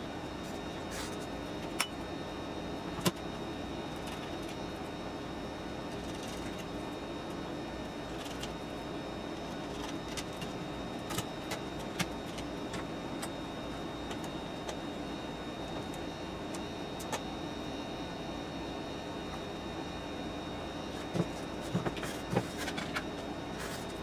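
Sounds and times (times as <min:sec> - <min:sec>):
faint high whine: 0:00.0 - 0:24.0
steady background hum: 0:00.0 - 0:24.0.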